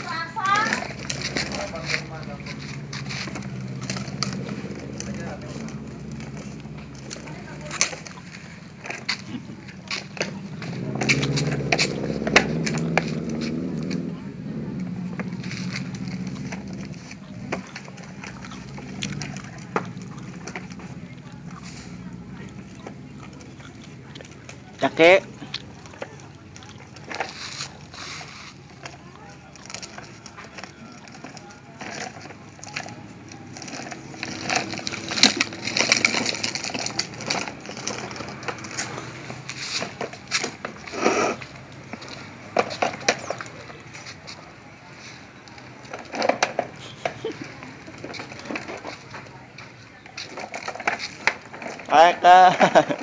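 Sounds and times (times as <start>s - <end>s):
plastic toy wheels rumbling on concrete: 0.0s - 53.0s.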